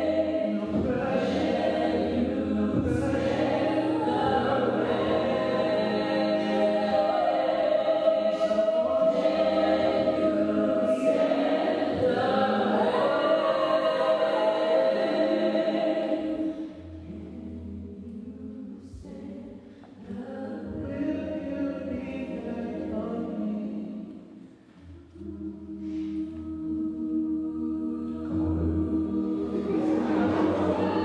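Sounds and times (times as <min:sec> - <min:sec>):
a cappella group singing: 0:00.0 - 0:31.0.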